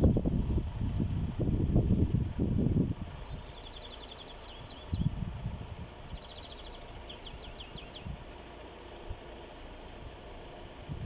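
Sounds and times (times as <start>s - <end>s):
songbird singing: 0.0s - 10.9s.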